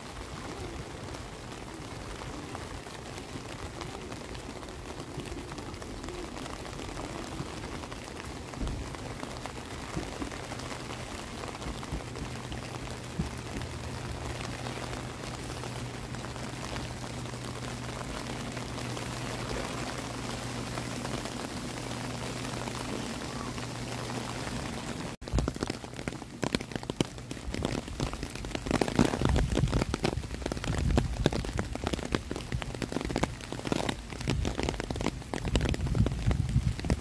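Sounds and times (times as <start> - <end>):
close patters of raindrops: 0.0 - 37.0
rain falling: 0.0 - 37.0.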